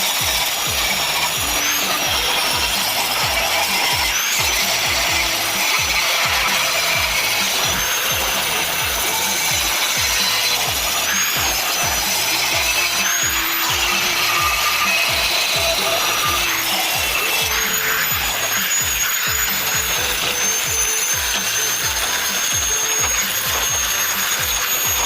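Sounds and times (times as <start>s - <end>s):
angle grinder grinding steel: 0.0s - 25.0s.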